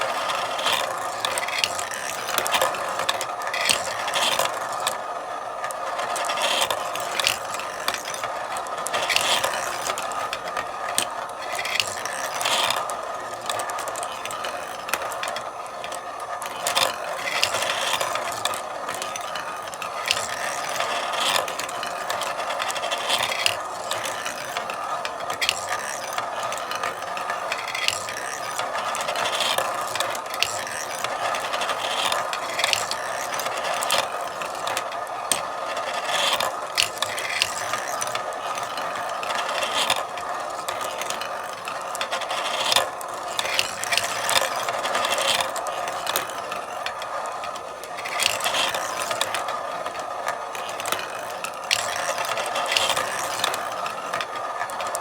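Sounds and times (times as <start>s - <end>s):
marbles rolling and clicking: 0.0s - 55.0s.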